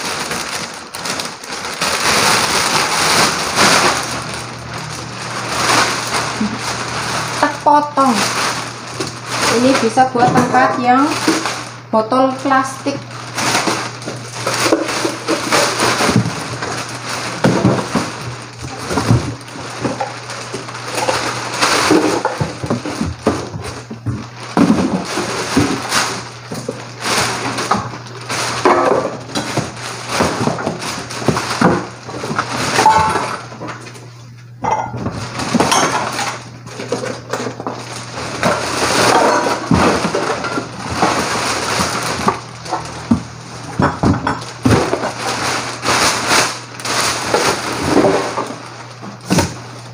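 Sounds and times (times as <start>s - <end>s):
plastic bag crinkling: 0.0s - 49.9s
plastic items clattering: 0.0s - 49.9s.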